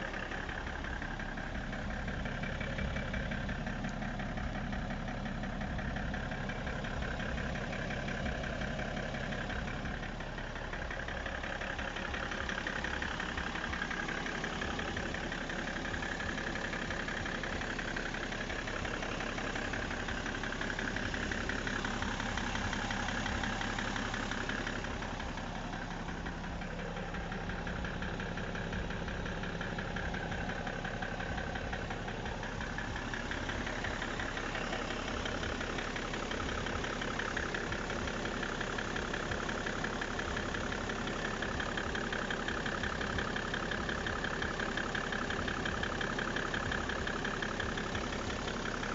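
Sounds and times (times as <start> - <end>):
diesel engine idling with knocking: 0.0 - 48.9.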